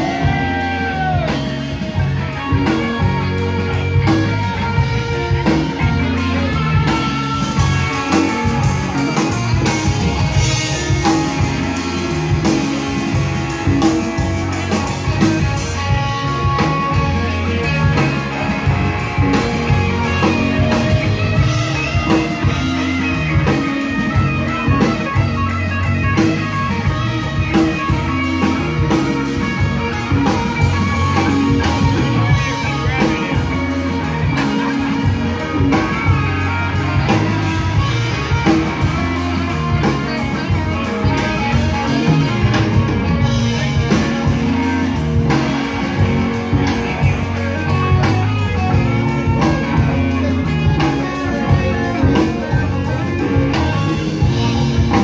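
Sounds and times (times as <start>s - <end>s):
drum kit beat: 0.0s - 55.0s
electric bass guitar: 0.0s - 55.0s
electric guitars: 0.0s - 55.0s.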